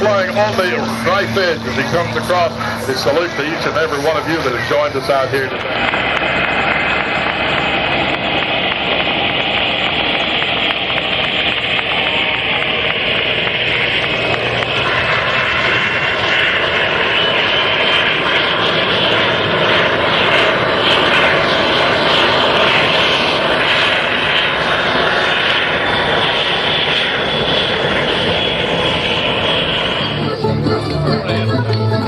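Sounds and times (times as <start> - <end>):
propeller airplane flying past: 0.0 - 32.0.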